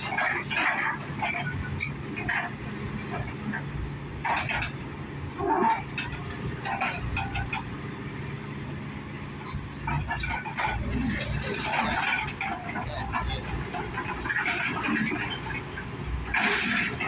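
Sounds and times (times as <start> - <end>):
demolition machinery engine running: 0.0 - 17.0.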